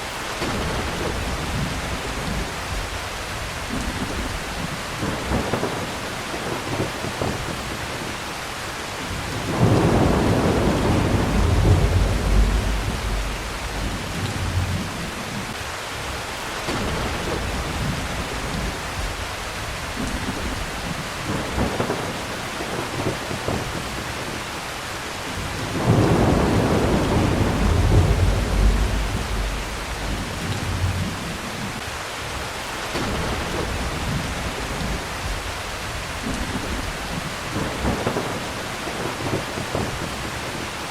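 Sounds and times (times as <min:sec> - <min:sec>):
steady heavy rain: 0:00.0 - 0:40.9
thunder rumbling: 0:00.4 - 0:08.1, 0:09.1 - 0:15.6, 0:16.7 - 0:24.5, 0:25.2 - 0:31.8, 0:32.9 - 0:40.6.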